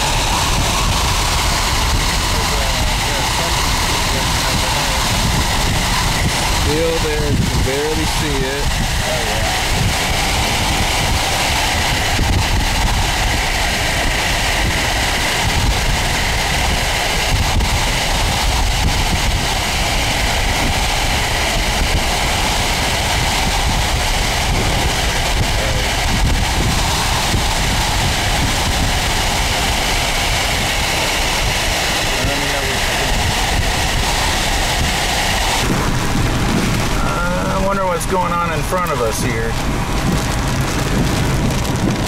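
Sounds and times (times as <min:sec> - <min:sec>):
vehicle road noise: 0:00.0 - 0:42.0
wind buffeting microphone: 0:00.0 - 0:42.0.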